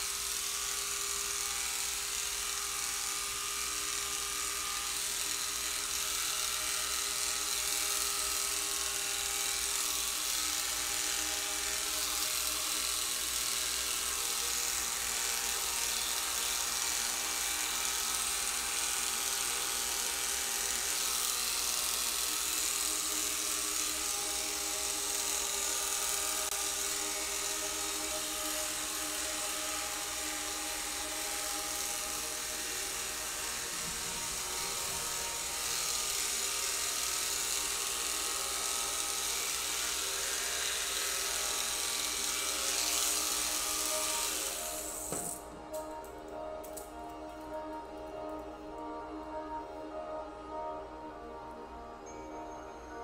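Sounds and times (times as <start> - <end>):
electric hair clippers buzzing: 0.0 - 50.7.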